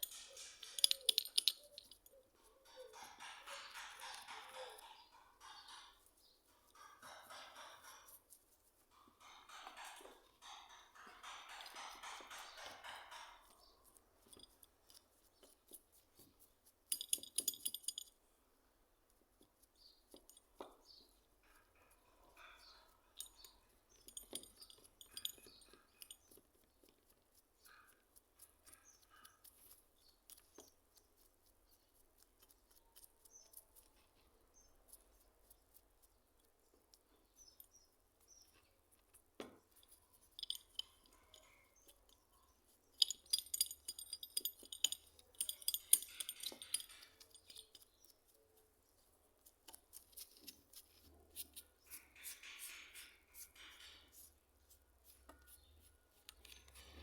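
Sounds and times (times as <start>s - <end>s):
small hard parts clinking: 0.0s - 18.3s, 19.4s - 31.3s, 36.4s - 57.0s.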